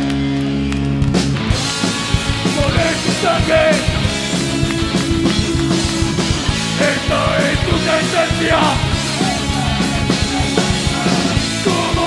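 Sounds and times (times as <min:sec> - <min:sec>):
live rock band playing: 0:00.0 - 0:12.0
driving drum beat: 0:01.1 - 0:12.0.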